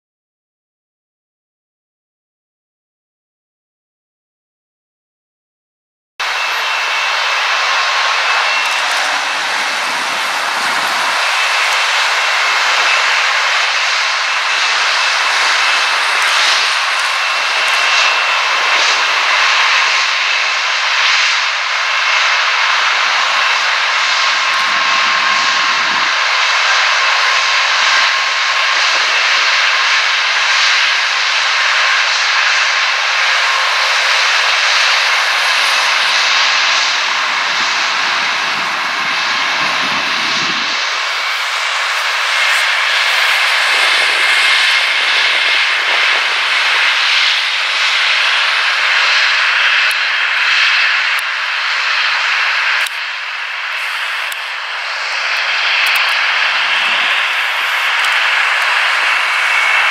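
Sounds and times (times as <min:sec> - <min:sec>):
jet engines roaring with whine: 0:06.2 - 0:59.9.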